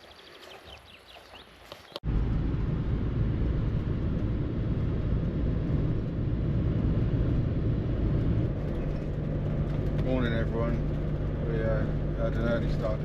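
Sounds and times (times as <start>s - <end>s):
vehicle engine and road noise: 1.6s - 13.0s.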